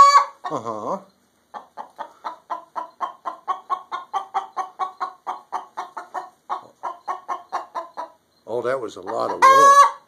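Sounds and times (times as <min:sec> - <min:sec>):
hen cackling: 0:00.0 - 0:08.3, 0:08.9 - 0:10.0.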